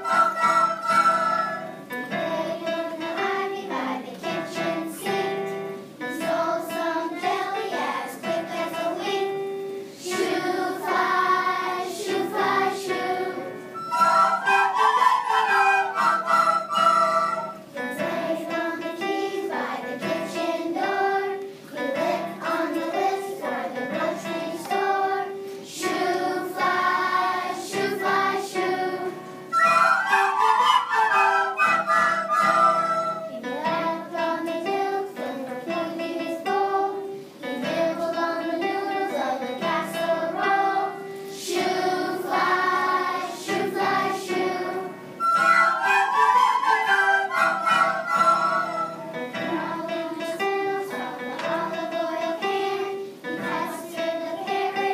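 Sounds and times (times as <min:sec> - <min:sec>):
children singing: 0:00.0 - 0:54.9
electric keyboard: 0:00.0 - 0:54.9.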